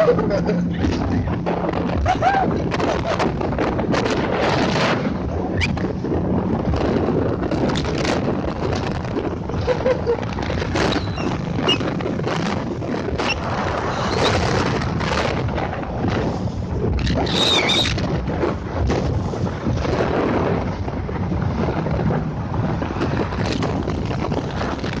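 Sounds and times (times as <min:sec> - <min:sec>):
boat engine: 0:00.0 - 0:25.0
rushing water: 0:00.0 - 0:25.0
wind buffeting microphone: 0:00.0 - 0:25.0.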